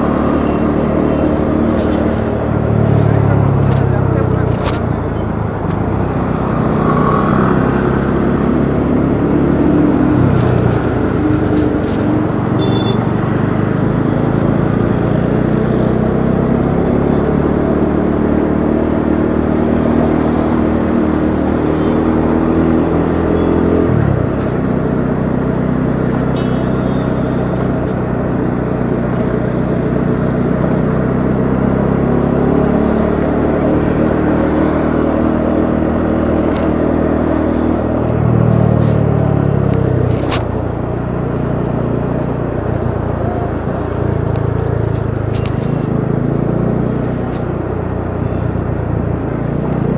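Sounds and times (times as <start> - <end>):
motorcycle engine running: 0.0 - 49.9
road and wind noise: 0.0 - 49.9.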